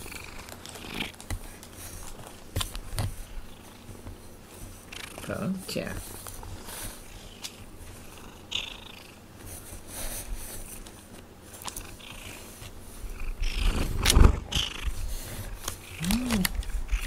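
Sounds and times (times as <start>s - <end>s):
cat purring: 0.0s - 2.0s, 3.2s - 9.7s, 11.4s - 17.0s.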